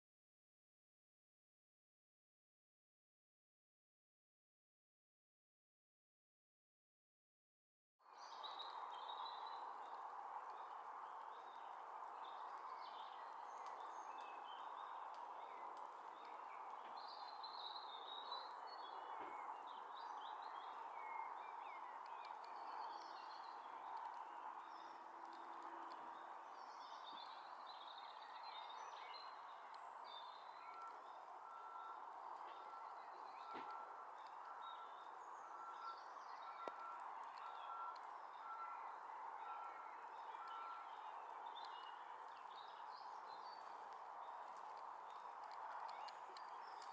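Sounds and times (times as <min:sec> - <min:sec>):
outdoor background rush: 0:08.0 - 0:46.9
songbirds chirping: 0:08.0 - 0:46.9.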